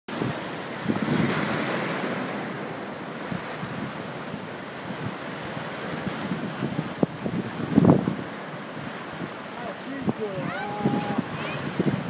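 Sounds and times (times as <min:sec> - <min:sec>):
surf breaking over rocks: 0:00.1 - 0:12.0
wind buffeting microphone: 0:00.1 - 0:12.0.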